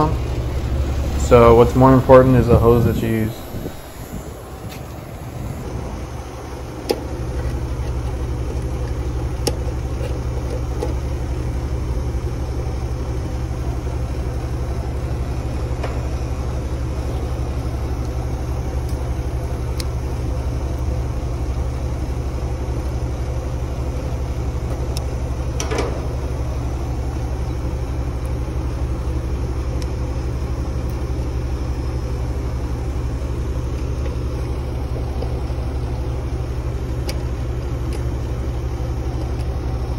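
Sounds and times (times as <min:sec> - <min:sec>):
vacuum pump humming: 0:00.0 - 0:39.9.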